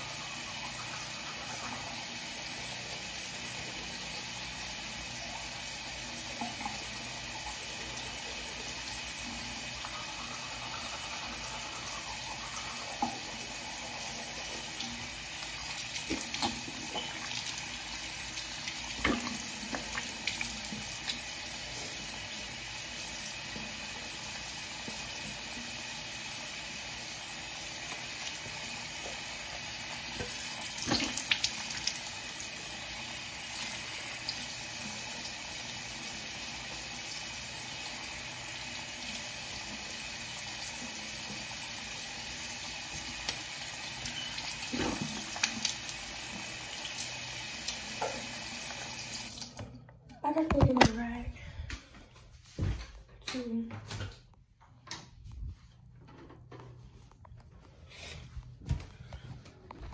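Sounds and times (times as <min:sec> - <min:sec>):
faucet water running into sink: 0:00.0 - 0:49.7.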